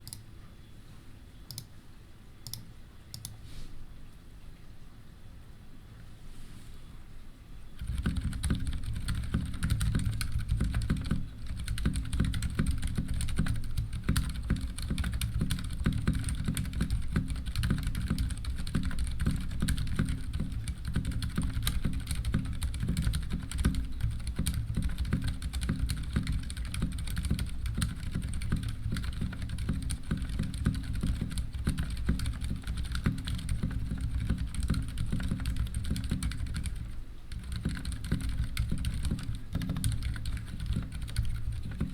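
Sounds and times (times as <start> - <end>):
mechanical keyboard typing: 7.8 - 41.9.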